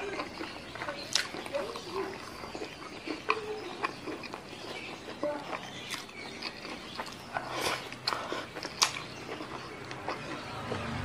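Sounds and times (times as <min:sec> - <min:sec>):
wet mouth chewing: 0:00.0 - 0:11.0.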